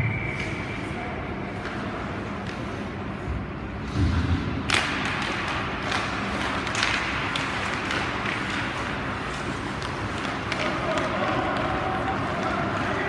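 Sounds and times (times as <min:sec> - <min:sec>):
hockey sticks and puck clacking: 0:00.1 - 0:03.3, 0:04.6 - 0:13.0.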